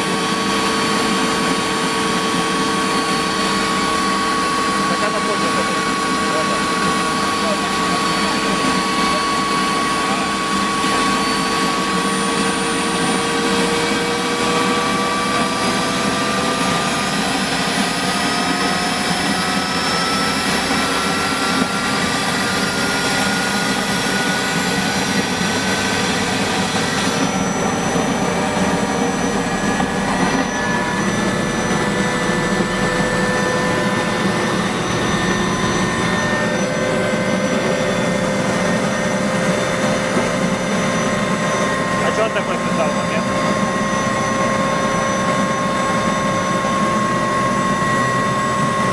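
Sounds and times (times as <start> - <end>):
helicopter engine roar: 0.0 - 48.9
turbine whine rising: 0.0 - 48.9.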